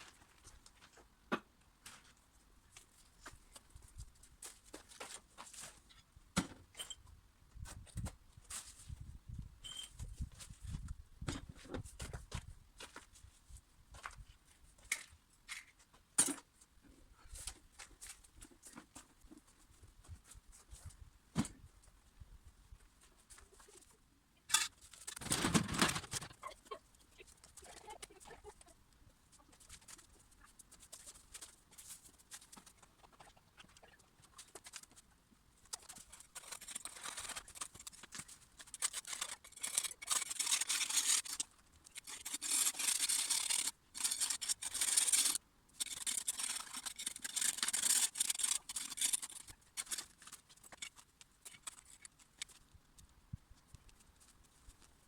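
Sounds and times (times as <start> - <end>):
rustling and scraping: 1.8 - 55.0.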